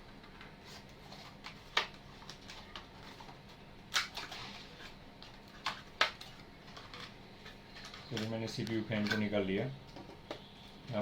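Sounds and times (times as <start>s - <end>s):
faint handling noise: 0.5s - 11.0s.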